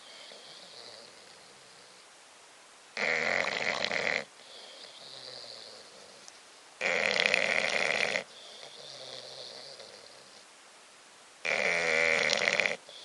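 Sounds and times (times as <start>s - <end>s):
dog snoring: 0.0s - 2.0s, 3.0s - 10.5s, 11.4s - 13.0s.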